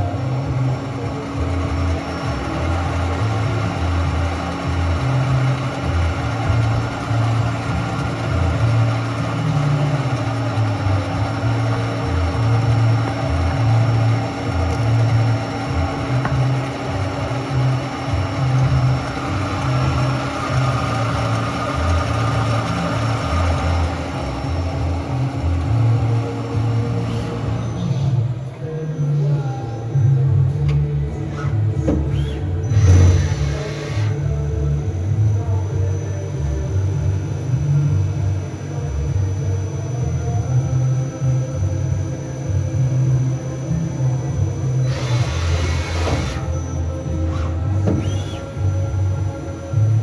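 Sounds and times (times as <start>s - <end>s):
lathe machine hum: 0.0s - 50.0s.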